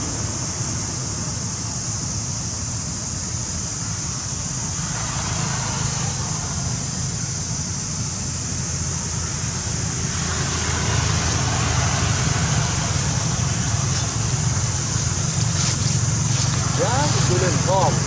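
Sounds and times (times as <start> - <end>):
constant high hiss: 0.0 - 18.0.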